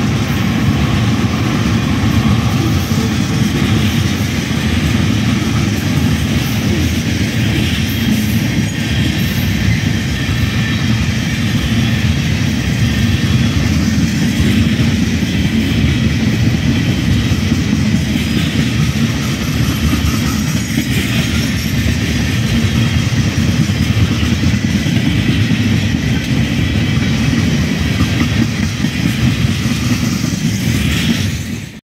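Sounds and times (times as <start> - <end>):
freight train wheels rumbling: 0.0 - 31.8.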